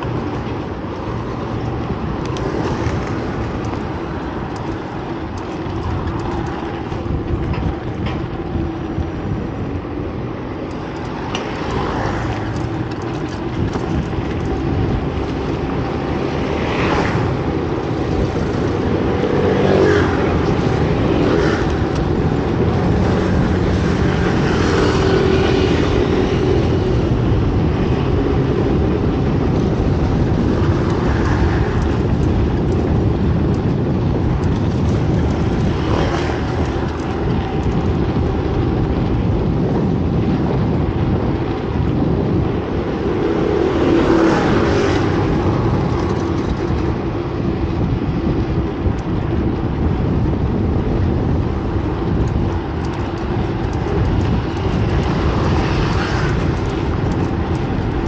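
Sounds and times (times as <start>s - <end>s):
street traffic noise: 0.0s - 58.0s.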